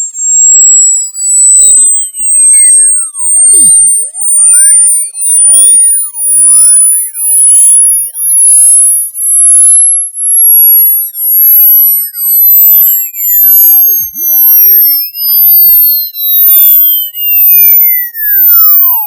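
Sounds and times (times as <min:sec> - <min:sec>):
high-pitched pulsing pure tone: 0:00.0 - 0:19.0.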